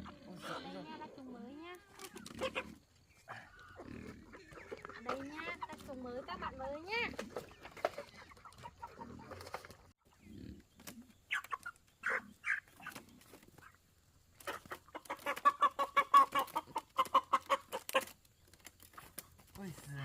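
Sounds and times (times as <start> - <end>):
chickens clucking: 0.0 - 19.7.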